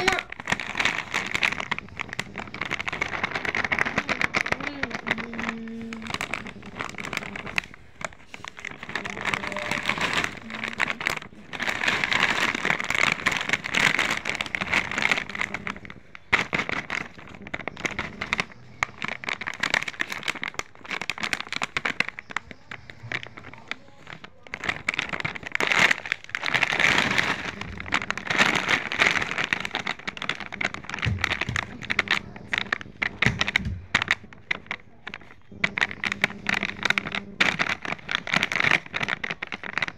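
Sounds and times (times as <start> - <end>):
foil packets crinkling: 0.0 - 39.9.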